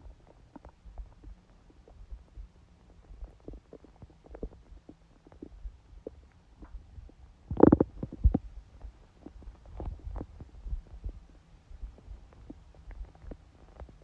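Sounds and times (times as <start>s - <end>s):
stomach growling and gurgling: 0.0s - 14.0s.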